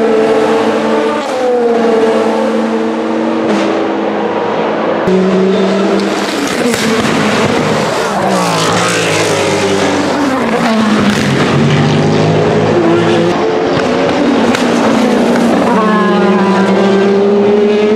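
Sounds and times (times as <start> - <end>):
racing car engine: 0.0 - 17.9
second racing car engine: 0.0 - 17.9.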